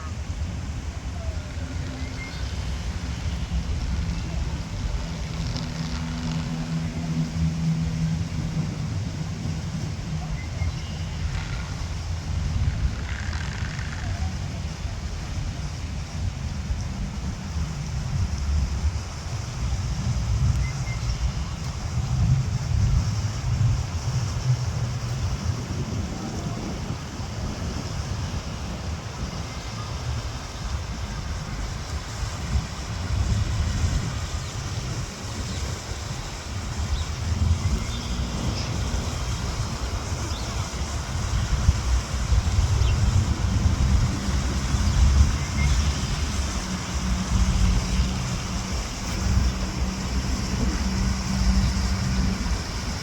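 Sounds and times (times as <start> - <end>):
faint voices: 0.0 - 17.7, 19.0 - 45.4
engine hum: 0.0 - 53.0
low outdoor rumble: 0.0 - 53.0
wind buffeting microphone: 0.0 - 53.0.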